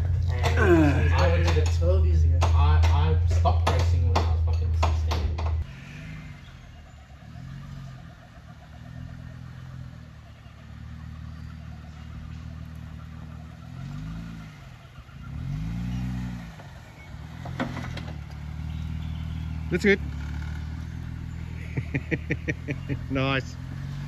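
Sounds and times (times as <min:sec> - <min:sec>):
vehicle engine revving: 0:00.0 - 0:04.2, 0:05.6 - 0:24.0.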